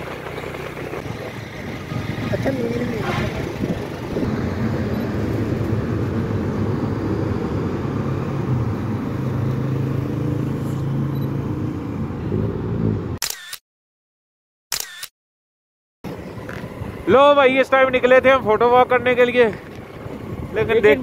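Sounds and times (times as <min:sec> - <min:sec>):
motor vehicle engines running: 0:00.0 - 0:13.2, 0:16.0 - 0:21.0.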